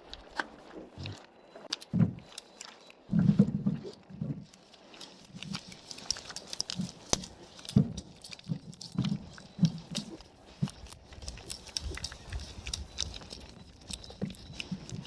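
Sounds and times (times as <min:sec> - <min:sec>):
farm animals moving and feeding: 0:00.0 - 0:15.0.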